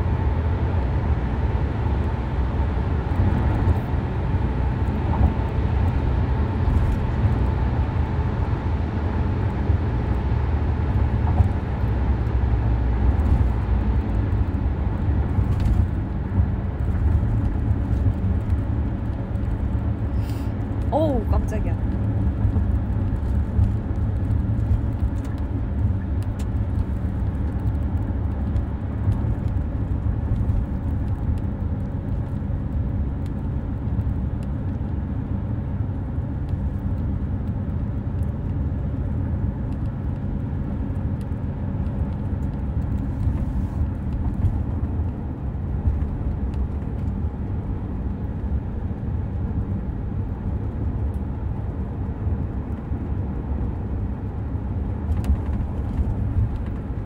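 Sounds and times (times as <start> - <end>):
car engine rumble inside cabin: 0.0 - 57.0
road noise: 0.0 - 57.0.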